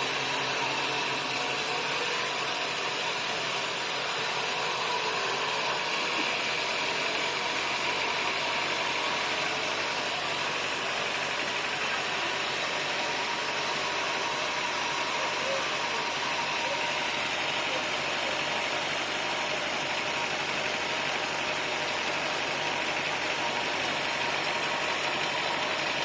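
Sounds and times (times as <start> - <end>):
sawmill machinery humming: 0.0 - 26.0.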